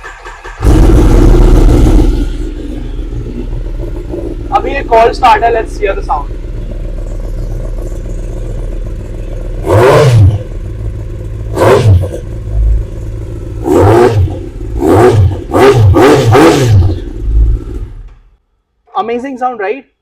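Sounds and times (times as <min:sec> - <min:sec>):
motorcycle engine idling and revving: 0:00.0 - 0:18.5.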